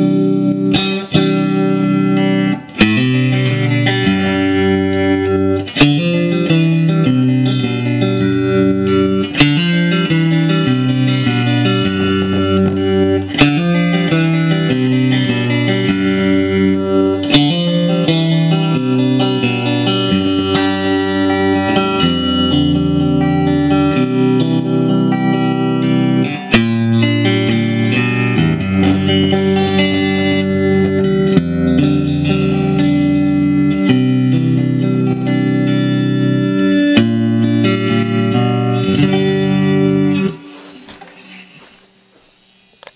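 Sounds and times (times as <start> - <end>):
electric guitar through amplifier: 0.0 - 42.9.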